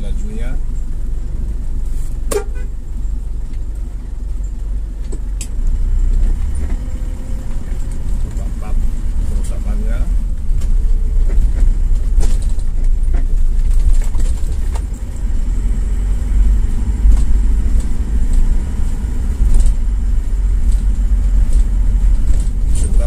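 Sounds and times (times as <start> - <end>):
car road noise rumble: 0.0 - 23.0.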